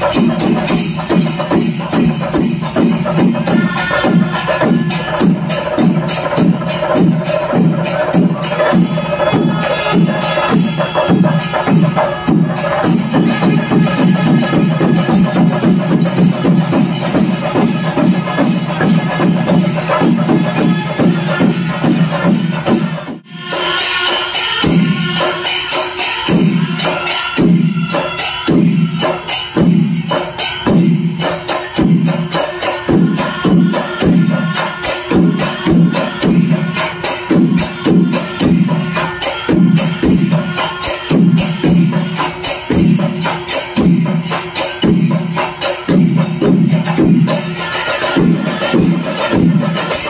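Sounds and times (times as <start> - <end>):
drums playing fast rhythm: 0.0 - 50.0
hand cymbals: 0.0 - 50.0.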